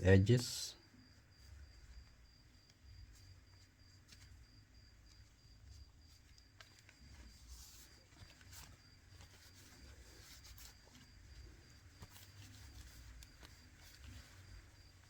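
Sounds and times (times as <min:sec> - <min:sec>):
small clicks and scrapes: 0:01.7 - 0:15.0.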